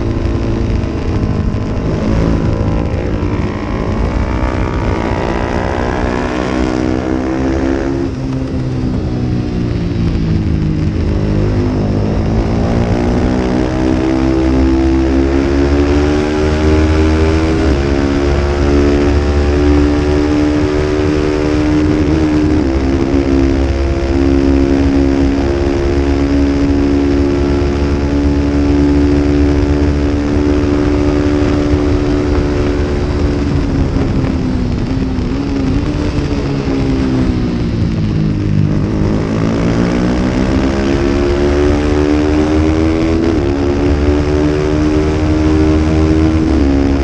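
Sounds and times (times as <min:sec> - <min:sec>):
motorcycle engine revving: 0:00.0 - 0:47.0
steady low rumble: 0:00.0 - 0:47.0.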